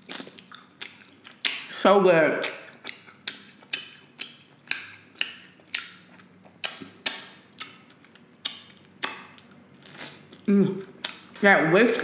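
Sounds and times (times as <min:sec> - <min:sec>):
chewing with mouth clicks: 0:00.0 - 0:01.7, 0:02.4 - 0:11.4.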